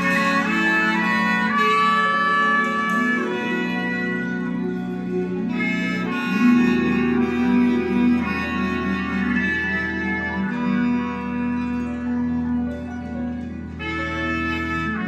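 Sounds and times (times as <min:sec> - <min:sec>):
bass line: 0:00.0 - 0:15.0
held melody notes: 0:00.0 - 0:15.0.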